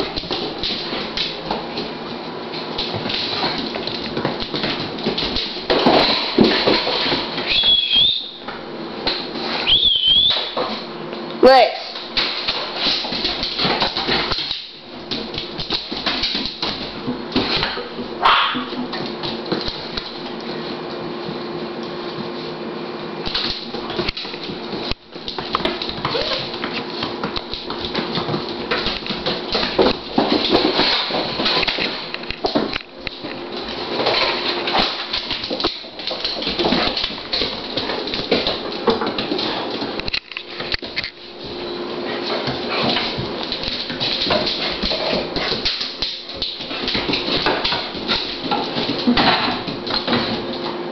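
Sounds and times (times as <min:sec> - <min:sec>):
dog claws clicking on floor: 0:00.0 - 0:10.9, 0:11.9 - 0:22.2, 0:23.2 - 0:50.8.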